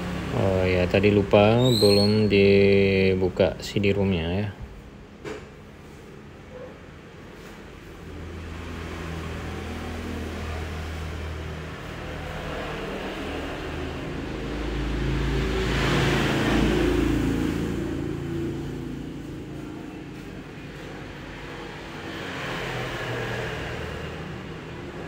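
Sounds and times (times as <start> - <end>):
vehicle engine humming: 0.0 - 1.7, 4.7 - 25.0.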